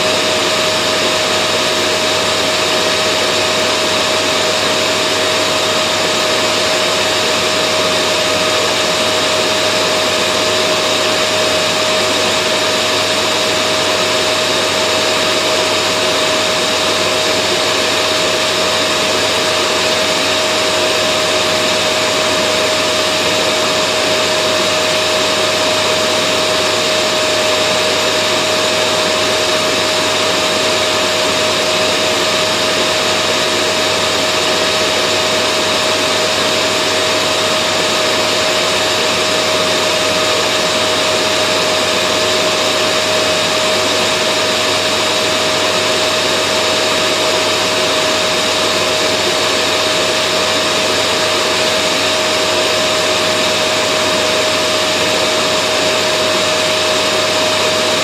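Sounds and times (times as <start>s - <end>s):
vacuum cleaner motor running: 0.0s - 58.0s.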